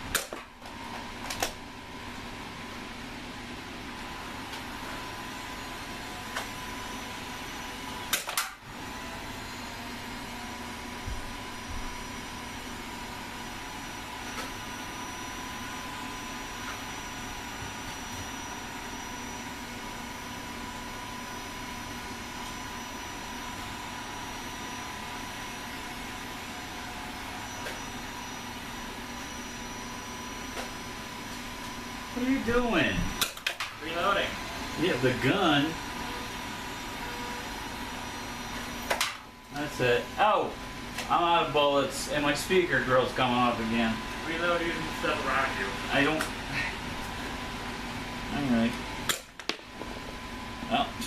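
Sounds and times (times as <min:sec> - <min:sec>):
steady machine hum: 0:00.0 - 0:51.0.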